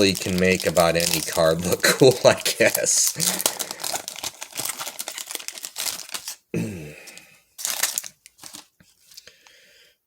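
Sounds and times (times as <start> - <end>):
foil wrapper crinkling and tearing: 0.0 - 6.5, 7.1 - 9.3.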